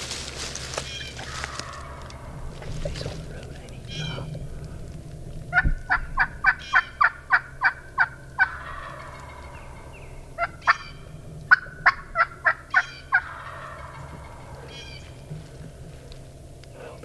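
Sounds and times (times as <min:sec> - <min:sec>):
wild turkey yelping: 0:00.5 - 0:16.4.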